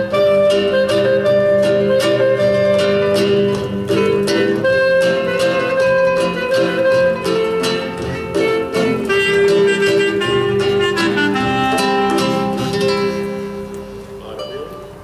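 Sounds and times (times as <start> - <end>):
acoustic guitar chords: 0.0 - 15.0
clarinet melody: 0.0 - 15.0.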